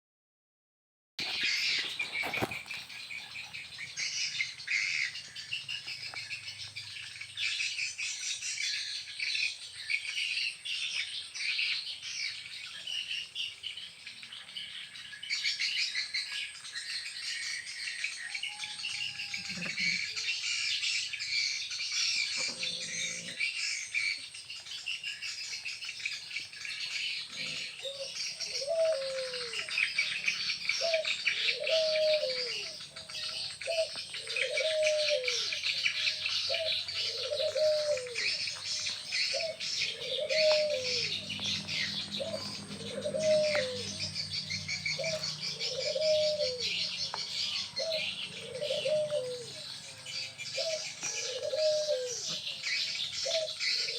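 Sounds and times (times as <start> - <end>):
small birds chirping: 1.2 - 53.9.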